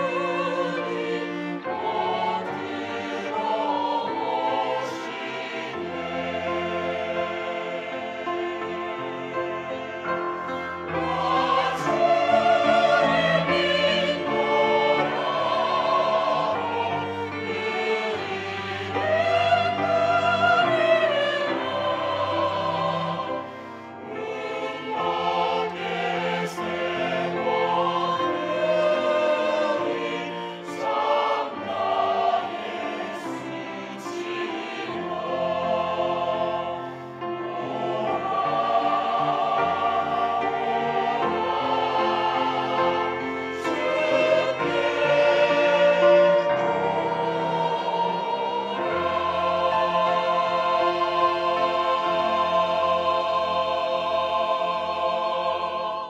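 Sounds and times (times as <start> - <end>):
cello: 0.0 - 56.0
choir singing a slow hymn: 0.0 - 56.0
grand piano: 0.0 - 56.0
violin: 0.0 - 56.0.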